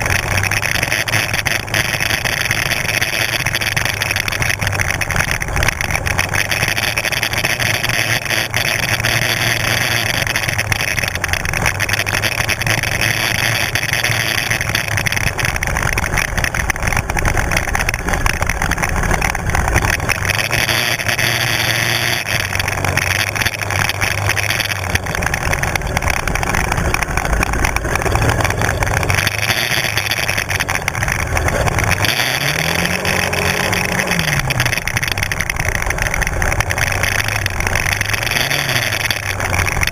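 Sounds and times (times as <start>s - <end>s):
quad bike engine running: 0.0s - 39.9s
steady rushing noise: 0.0s - 39.9s.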